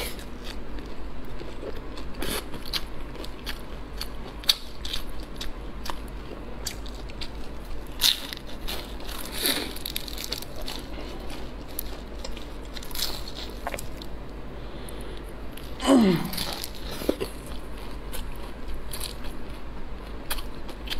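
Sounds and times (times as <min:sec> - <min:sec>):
crunching pastry: 0:00.0 - 0:14.4, 0:15.2 - 0:20.9
person chewing: 0:00.0 - 0:20.9.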